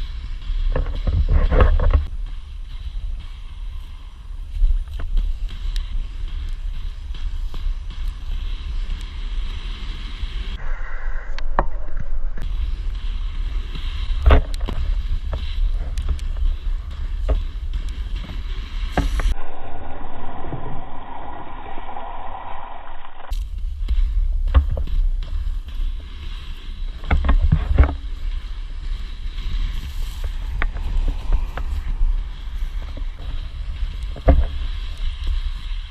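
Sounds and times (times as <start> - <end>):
skate wheels rolling on pavement: 0.0 - 10.6, 12.4 - 19.4, 23.2 - 35.9
wind buffeting microphone: 0.0 - 35.9.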